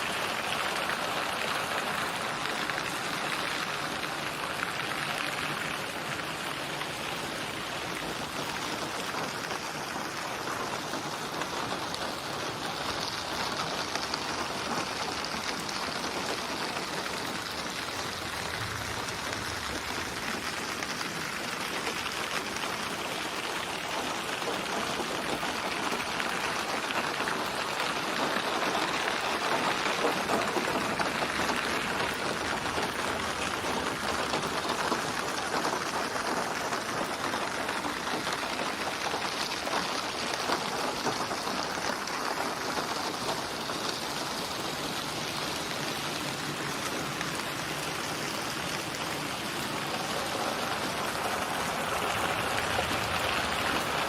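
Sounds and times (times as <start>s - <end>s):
rain pattering on surface: 0.0s - 54.0s.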